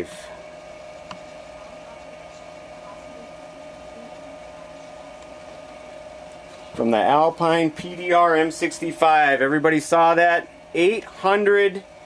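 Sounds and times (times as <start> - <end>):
electrical hum with high whine: 0.0 - 12.0.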